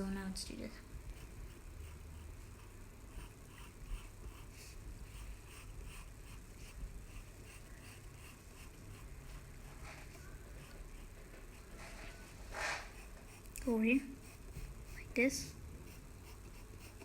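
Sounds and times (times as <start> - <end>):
drawing tool scratching on paper: 1.1 - 9.8, 10.5 - 17.0.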